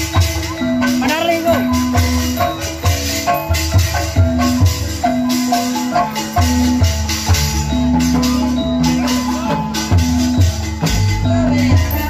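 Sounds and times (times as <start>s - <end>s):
bronze metallophones ringing: 0.0s - 12.0s
metallic percussion rattle: 0.0s - 12.0s
steady drum beat: 0.0s - 12.0s.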